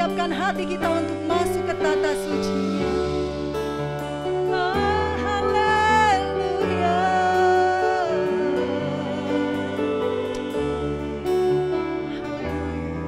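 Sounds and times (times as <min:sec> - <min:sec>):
band sustained chords and bass: 0:00.0 - 0:13.0.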